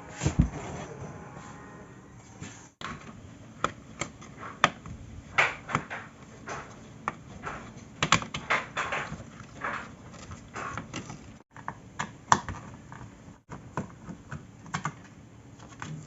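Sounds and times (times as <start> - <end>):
plastic clicks and clacks: 2.8 - 16.0.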